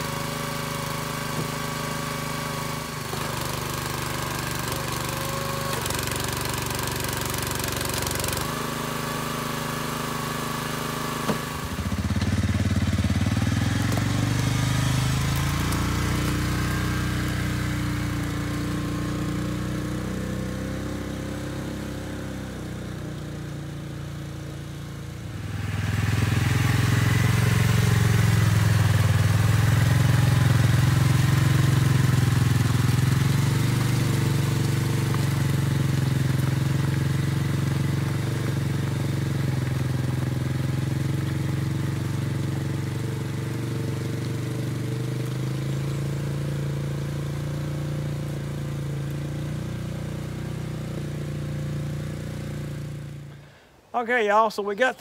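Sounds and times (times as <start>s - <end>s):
small engine running: 0.0s - 53.6s
utility vehicle engine driving: 0.0s - 53.7s.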